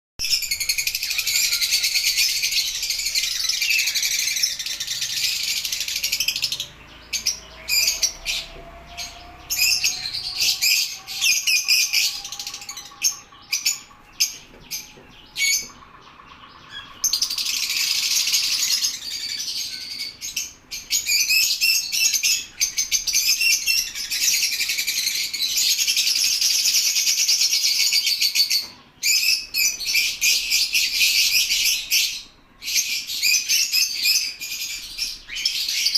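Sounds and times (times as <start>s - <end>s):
lovebirds chattering and chirping: 0.2s - 35.9s.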